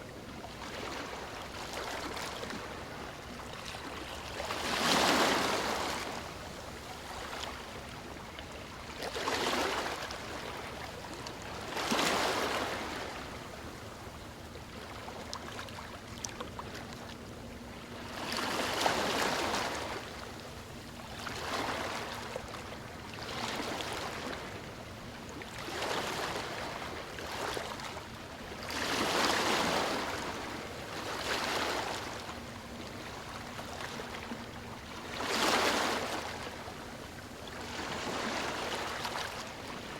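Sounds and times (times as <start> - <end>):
waves lapping on a shore: 0.0 - 39.9.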